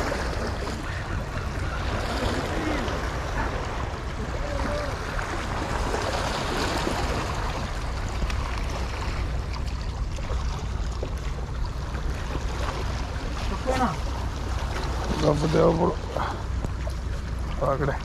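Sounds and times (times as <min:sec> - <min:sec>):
waves washing over rocks: 0:00.0 - 0:10.8, 0:11.4 - 0:18.0.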